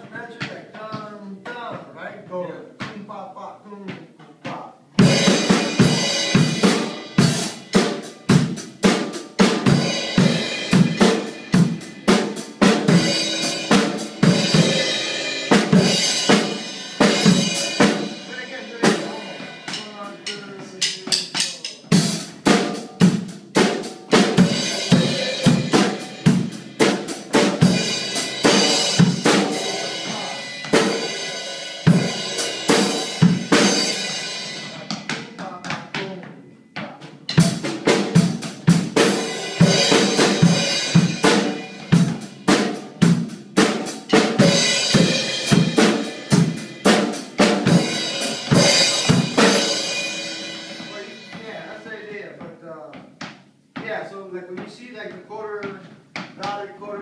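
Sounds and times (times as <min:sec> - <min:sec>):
drum kit groove: 0:00.0 - 0:57.0.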